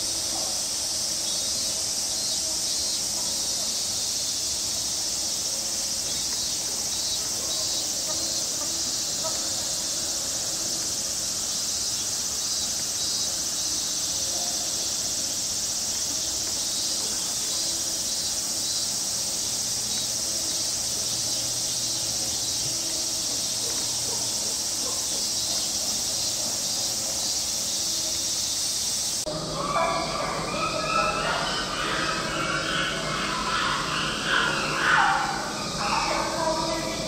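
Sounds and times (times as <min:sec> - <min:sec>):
cicadas droning: 0:00.0 - 0:37.0.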